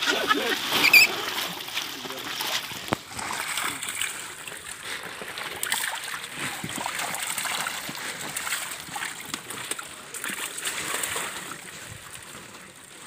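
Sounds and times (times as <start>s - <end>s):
fish thrashing and splashing water: 0.0s - 13.0s.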